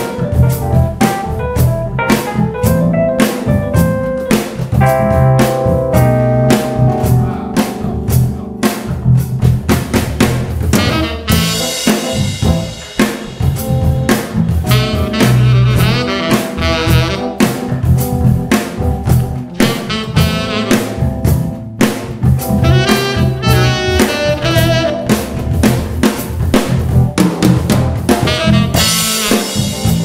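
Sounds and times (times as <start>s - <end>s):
funk band playing: 0.0s - 30.0s
snare and bass drum strokes: 0.0s - 30.0s.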